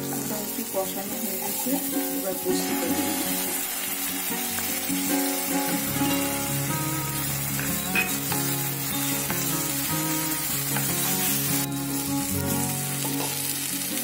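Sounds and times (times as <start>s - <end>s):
paste sizzling in oil: 0.0s - 14.0s
soft background music: 0.0s - 14.0s.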